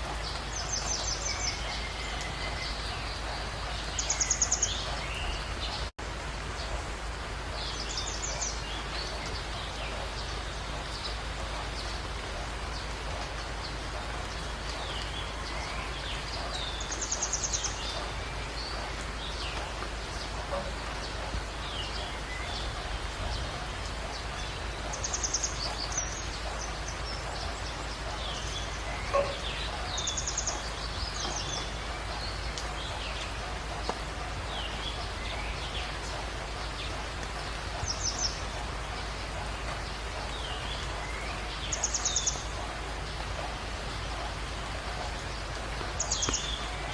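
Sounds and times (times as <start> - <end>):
birds chirping: 0.0 - 46.9
steady hiss: 0.0 - 46.9.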